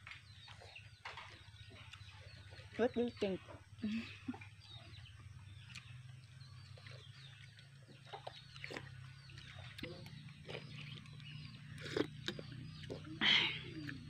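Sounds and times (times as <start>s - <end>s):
faint birds chirping: 0.0s - 14.0s
soft eating noises: 0.0s - 14.0s.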